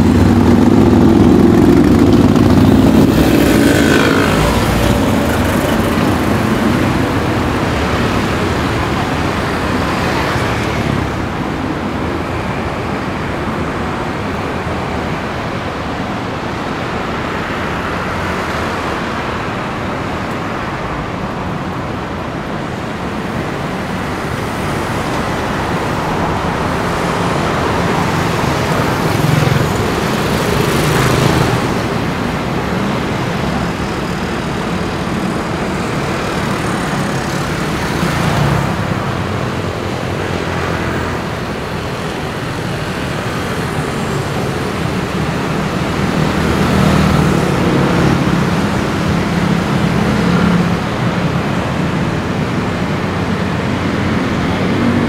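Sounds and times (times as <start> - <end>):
road traffic noise: 0.0 - 55.0
vehicles passing close: 0.0 - 55.0.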